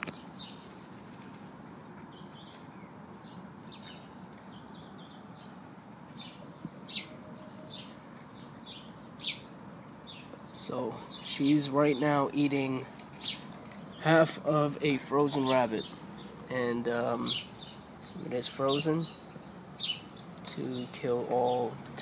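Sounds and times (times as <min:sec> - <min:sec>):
faint outdoor background: 0:00.0 - 0:22.0
small birds chirping: 0:00.0 - 0:22.0.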